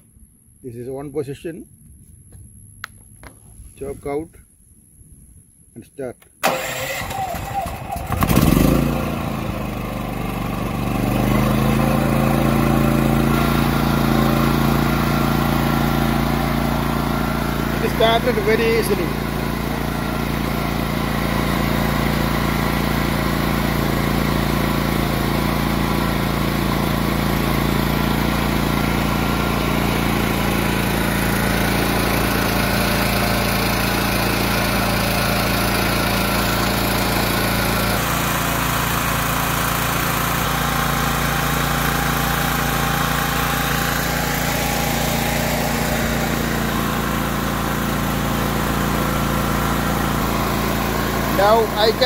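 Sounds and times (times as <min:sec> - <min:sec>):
generator engine running: 0:06.4 - 0:52.0.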